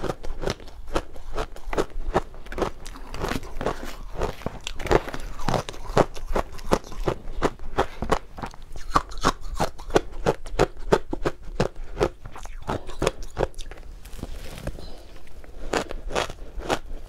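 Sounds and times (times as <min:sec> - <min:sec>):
chewing crunchy shaved ice: 0:00.0 - 0:17.0.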